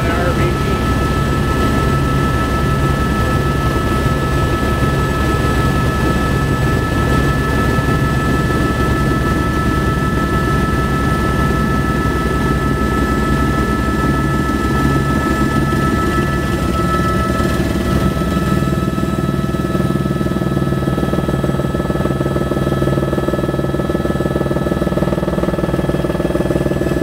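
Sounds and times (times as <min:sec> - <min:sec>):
helicopter rotor and engine rumble: 0:00.0 - 0:27.0.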